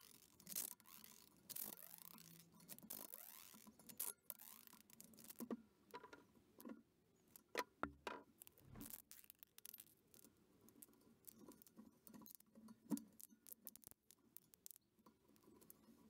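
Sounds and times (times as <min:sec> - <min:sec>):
rim tape rubbing: 0:00.0 - 0:06.1, 0:08.4 - 0:16.0.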